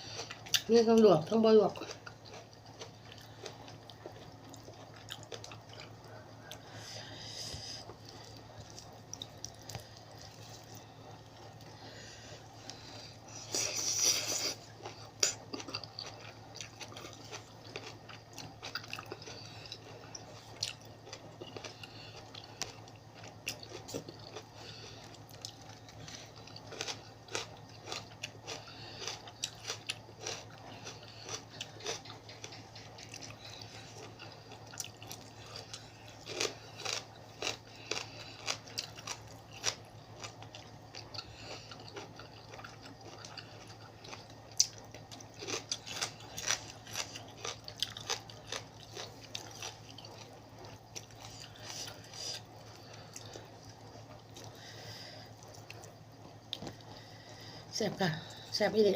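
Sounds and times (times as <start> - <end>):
person chewing and crunching food: 0.0 - 58.8
faint low hum: 0.0 - 58.9.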